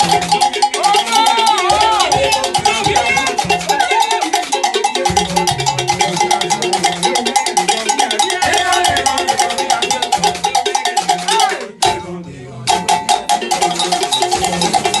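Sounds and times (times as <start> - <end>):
brass band playing: 0.0 - 15.0
wooden hand drums: 0.0 - 15.0.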